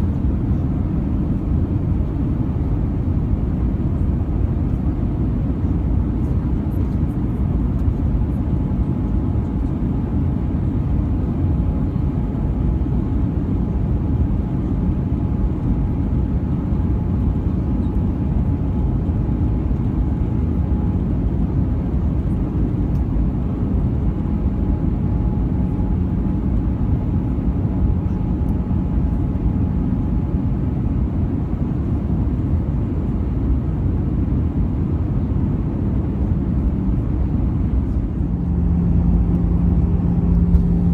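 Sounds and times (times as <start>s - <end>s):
airflow over fuselage: 0.0s - 40.9s
airplane cabin engine rumble: 0.0s - 40.9s.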